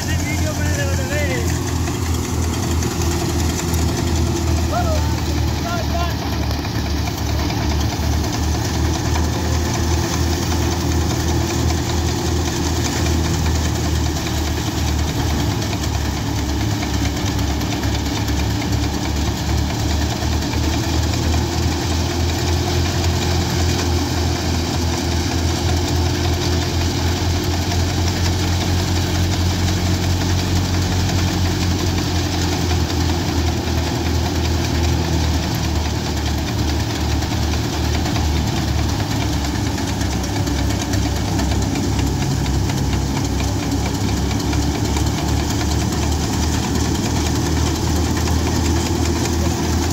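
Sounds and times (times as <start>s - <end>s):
thresher drum whirring: 0.0s - 49.9s
tractor diesel engine running: 0.0s - 49.9s.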